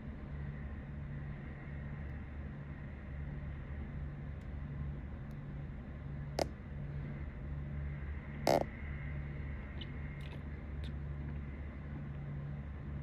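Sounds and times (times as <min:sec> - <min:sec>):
pulsing low hum: 0:00.0 - 0:13.0.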